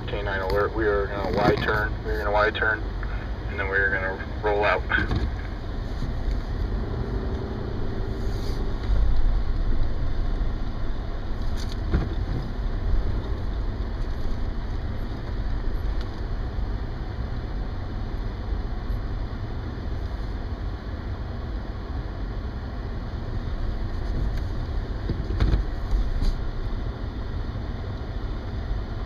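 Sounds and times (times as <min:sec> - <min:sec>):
truck engine rumble: 0:00.0 - 0:29.0.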